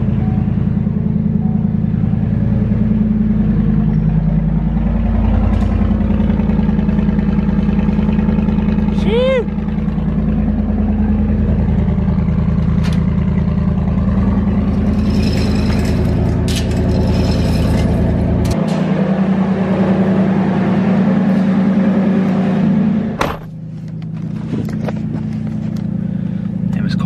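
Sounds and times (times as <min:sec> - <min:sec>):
pickup truck engine idling: 0:00.0 - 0:18.5, 0:23.1 - 0:27.0.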